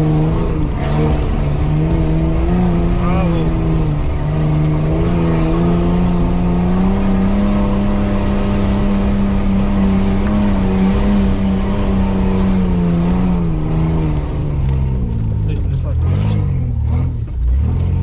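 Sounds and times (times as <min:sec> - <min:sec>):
off-road vehicle engine pulling: 0:00.0 - 0:18.0.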